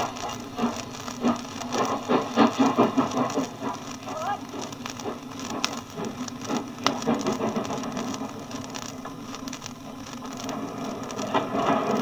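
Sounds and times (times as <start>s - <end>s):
sharp clicks: 0.0s - 12.0s.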